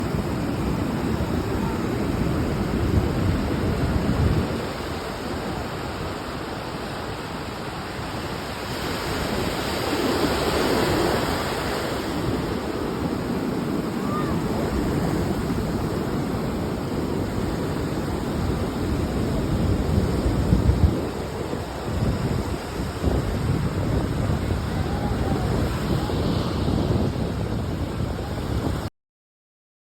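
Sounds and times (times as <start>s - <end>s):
wind buffeting microphone: 0.0s - 6.4s, 9.0s - 28.9s.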